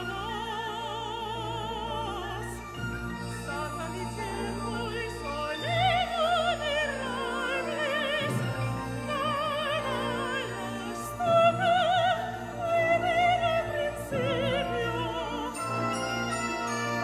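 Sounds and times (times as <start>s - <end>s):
slow orchestral music: 0.0s - 17.0s.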